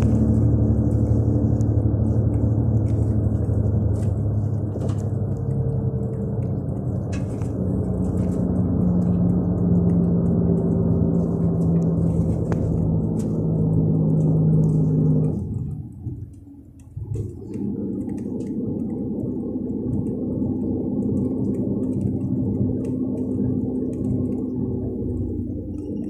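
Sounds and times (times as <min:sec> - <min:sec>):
diesel coach engine under load: 0:00.0 - 0:26.0.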